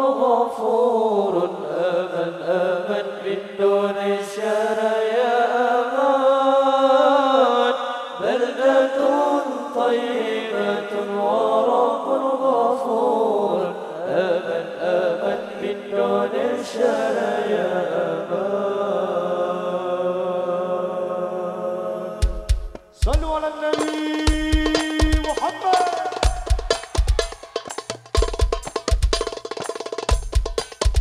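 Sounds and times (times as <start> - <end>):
men chanting through microphones: 0.0 - 27.3.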